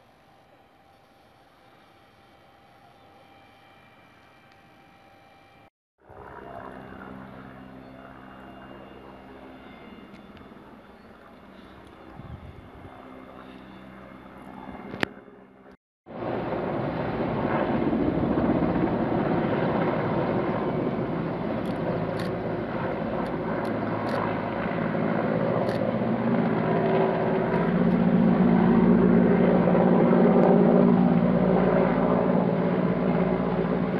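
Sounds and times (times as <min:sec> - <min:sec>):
helicopter flying over: 0:00.0 - 0:33.9.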